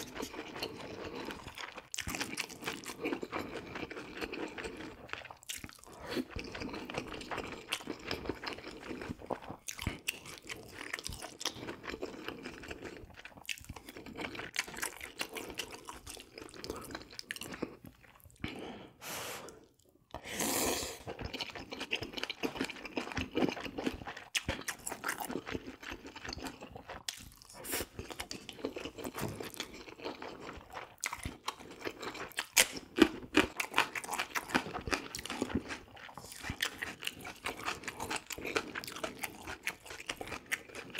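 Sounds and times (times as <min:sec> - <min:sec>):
close chewing and crunching: 0:00.0 - 0:18.8, 0:19.6 - 0:40.9.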